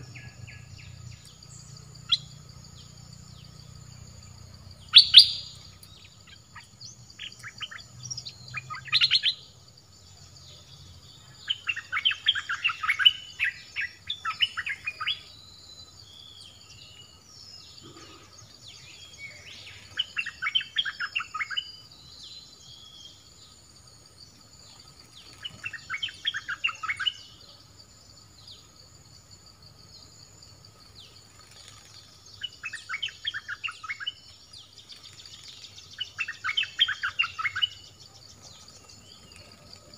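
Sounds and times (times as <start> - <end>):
bird chattering song: 0.0 - 23.4, 24.7 - 27.7, 31.0 - 39.9
high insect drone: 0.0 - 39.9.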